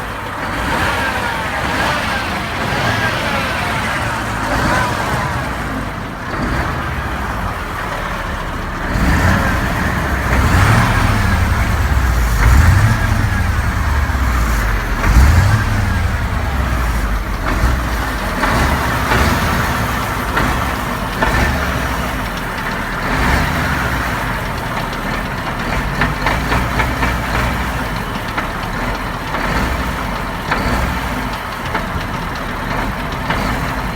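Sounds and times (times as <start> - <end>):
diesel truck engine revving: 0.0 - 33.9.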